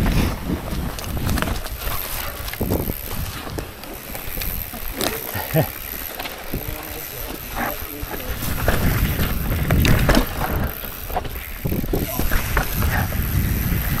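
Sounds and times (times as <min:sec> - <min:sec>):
bike frame rattling: 0:00.0 - 0:14.0
tyres rumbling over rock: 0:00.0 - 0:14.0.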